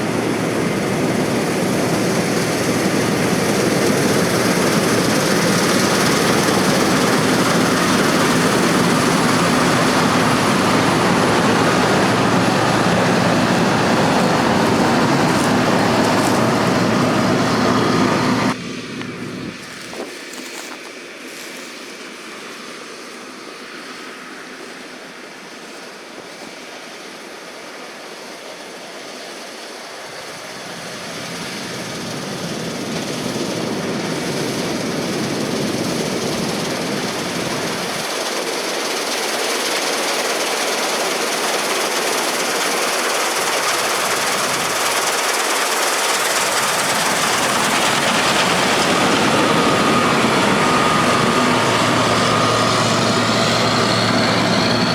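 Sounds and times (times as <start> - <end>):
combine harvester running: 0.0 - 20.8, 29.3 - 54.9.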